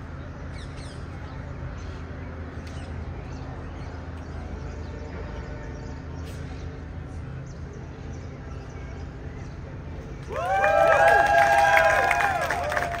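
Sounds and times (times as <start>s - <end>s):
low outdoor background rumble: 0.0s - 13.0s.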